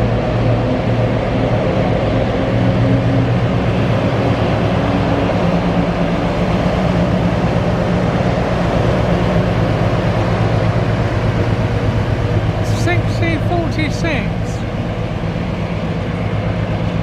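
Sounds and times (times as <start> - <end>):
diesel locomotive passing: 0.0 - 17.0.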